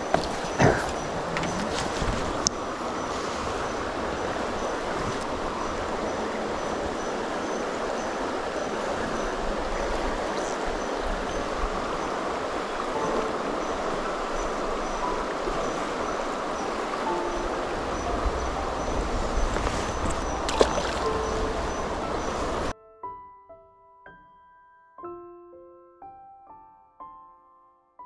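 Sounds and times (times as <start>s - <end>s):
river rushing: 0.0s - 22.7s.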